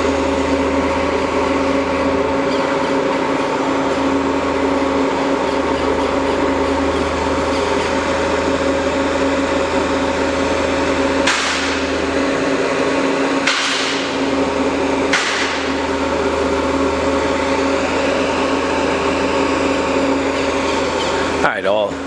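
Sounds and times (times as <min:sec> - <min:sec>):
lathe humming: 0:00.0 - 0:22.0.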